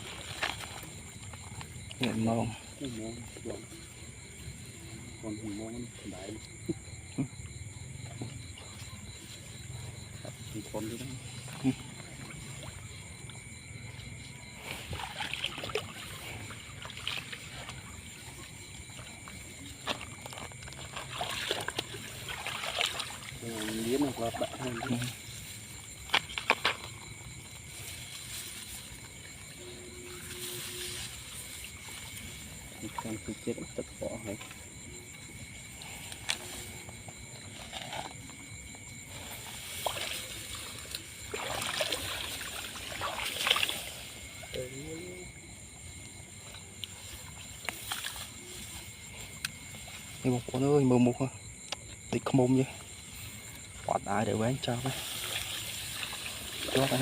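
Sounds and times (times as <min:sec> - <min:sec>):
water sloshing and splashing: 0:00.0 - 0:05.2, 0:07.8 - 0:44.6, 0:45.4 - 0:51.1, 0:52.2 - 0:57.0.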